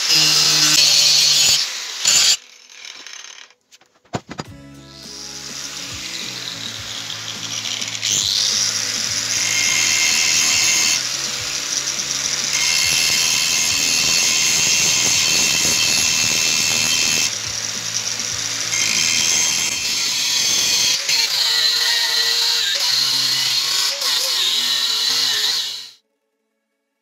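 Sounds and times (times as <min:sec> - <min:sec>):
angle grinder grinding steel: 0:00.0 - 0:03.6, 0:04.2 - 0:26.0.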